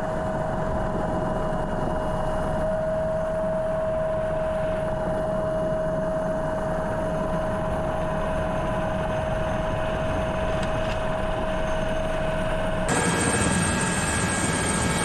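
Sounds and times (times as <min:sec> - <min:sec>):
engine drone with high whine: 0:00.0 - 0:15.0.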